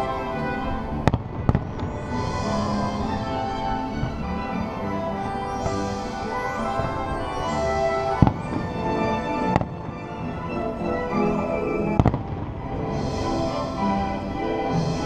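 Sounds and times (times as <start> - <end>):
music soundtrack: 0.0 - 15.0.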